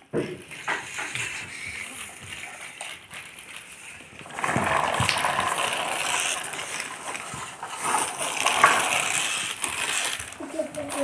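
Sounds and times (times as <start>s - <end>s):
toy truck wheels rattling on concrete: 0.1s - 11.0s.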